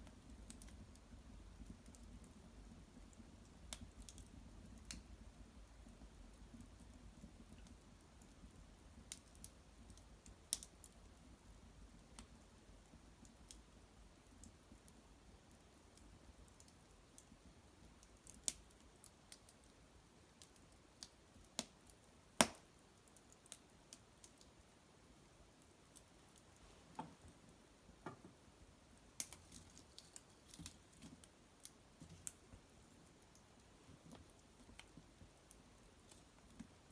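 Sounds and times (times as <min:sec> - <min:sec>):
small fire crackling: 0:00.0 - 0:36.9.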